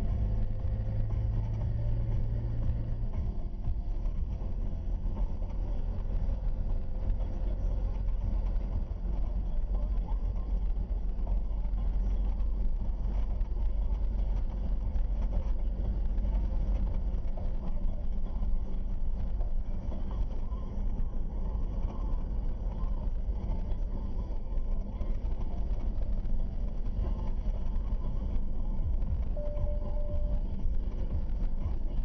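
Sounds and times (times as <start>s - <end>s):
car engine and tyre road noise: 0.0s - 32.0s.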